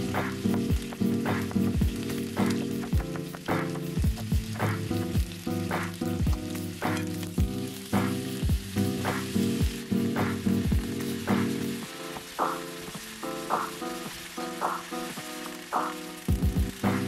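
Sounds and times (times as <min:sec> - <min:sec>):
background music with beat: 0:00.0 - 0:17.0
meat sizzling in a frying pan: 0:00.0 - 0:17.0.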